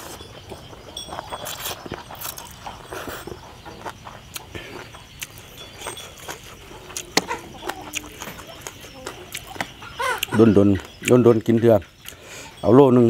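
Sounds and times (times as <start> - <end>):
wet chewing: 0.0 - 12.6.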